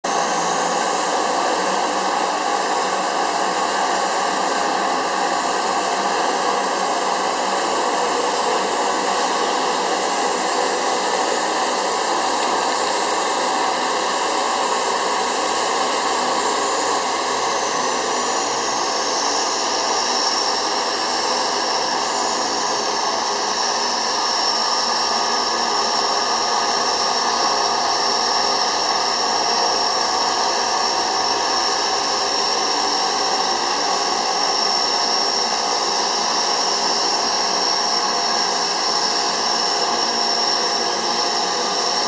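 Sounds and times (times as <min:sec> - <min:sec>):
turboprop engine whine: 0:00.0 - 0:42.0.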